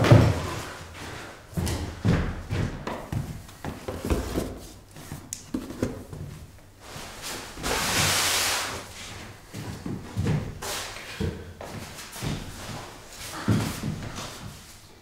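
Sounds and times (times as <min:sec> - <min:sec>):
footsteps on bare floor: 0:00.0 - 0:08.1, 0:08.7 - 0:15.0.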